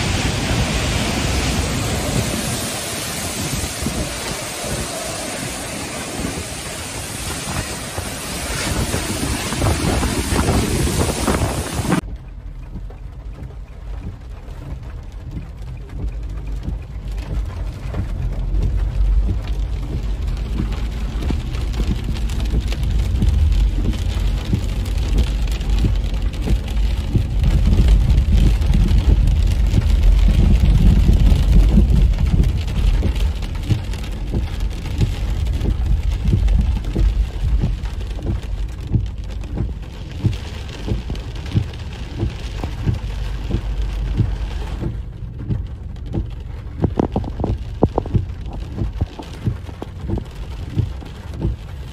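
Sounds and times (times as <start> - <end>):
heavy rain on car roof: 0.0 - 51.9.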